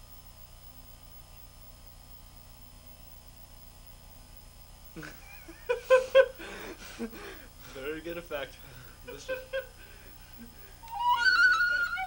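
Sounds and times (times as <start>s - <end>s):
electrical mains hum: 0.0s - 12.0s
faint high whine: 0.0s - 12.0s.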